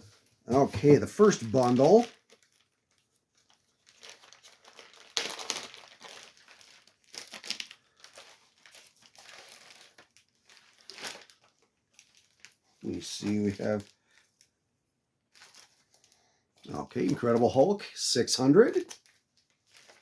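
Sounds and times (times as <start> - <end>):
plastic wrapping crinkling: 0.0 - 14.6, 15.2 - 20.0.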